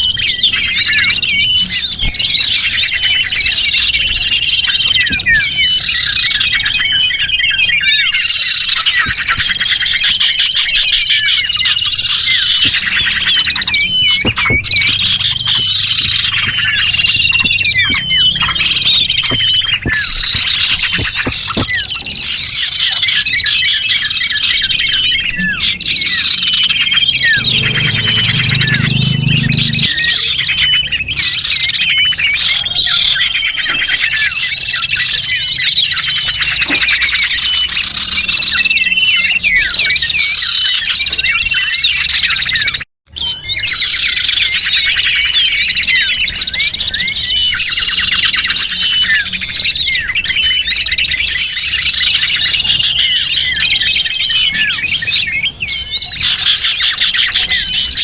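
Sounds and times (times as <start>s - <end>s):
small birds chirping chorus: 0.0s - 58.0s.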